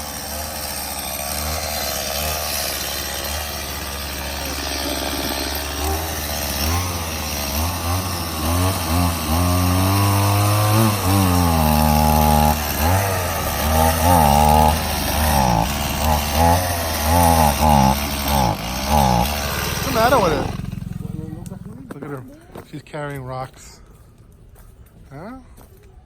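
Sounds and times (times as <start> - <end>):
small gasoline engine revving: 0.0 - 21.9.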